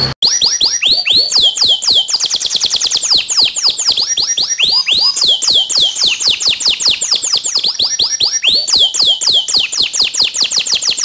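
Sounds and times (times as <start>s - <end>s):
canary singing: 0.0s - 11.0s
high fast bird trill: 0.0s - 11.0s.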